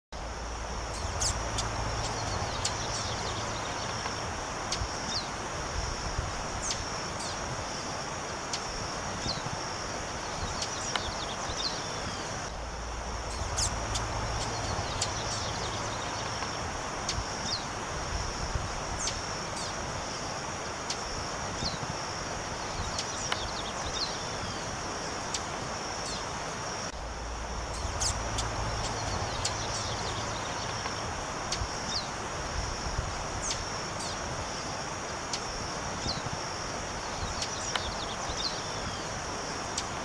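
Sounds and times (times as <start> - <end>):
high-pitched insect buzz: 0.2 - 40.0.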